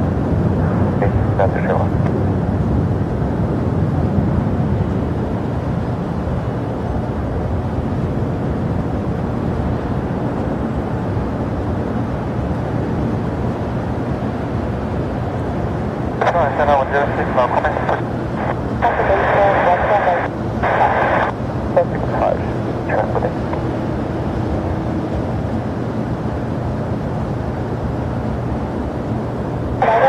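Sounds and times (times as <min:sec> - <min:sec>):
jet airliner engines rumbling: 0:00.0 - 0:30.0.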